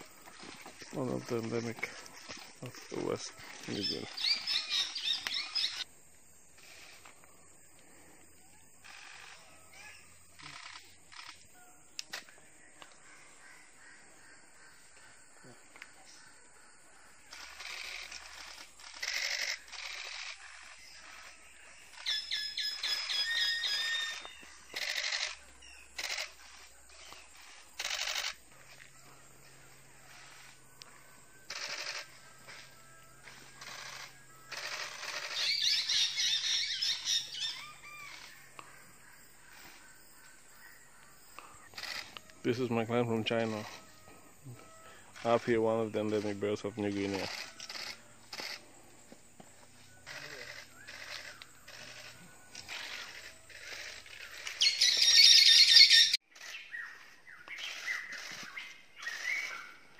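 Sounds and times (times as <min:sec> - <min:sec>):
harsh crow-like bird calls: 0:00.0 - 0:05.9, 0:08.5 - 0:48.8, 0:50.0 - 0:59.9.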